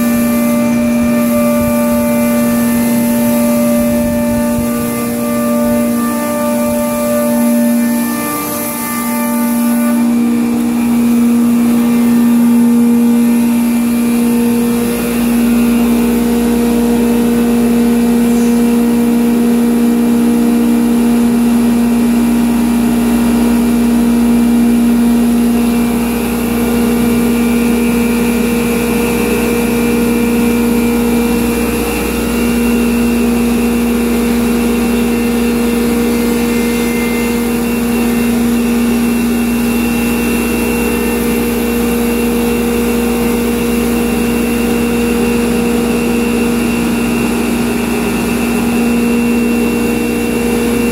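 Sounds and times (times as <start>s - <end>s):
router spindle steady tone: 0.0s - 50.9s.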